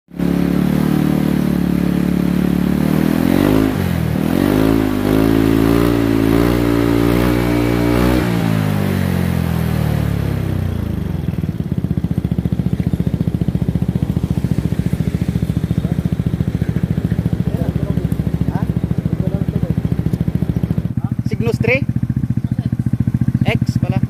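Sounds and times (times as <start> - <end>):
scooter engine revving and idling: 0.1 - 24.0.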